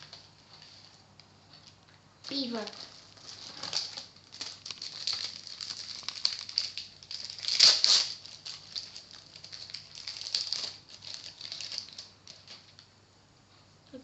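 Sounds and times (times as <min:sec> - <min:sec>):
wrapper and cards crinkling: 0:00.0 - 0:12.9.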